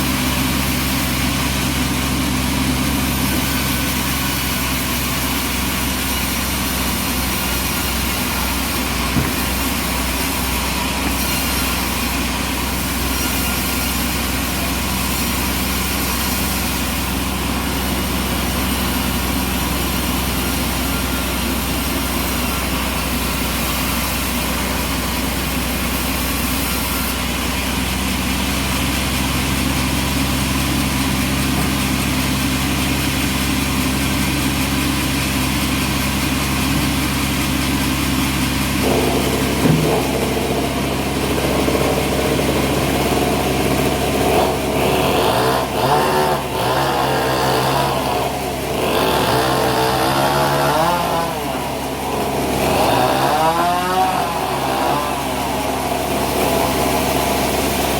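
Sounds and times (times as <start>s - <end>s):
engine-driven bandsaw running: 0.0s - 57.9s.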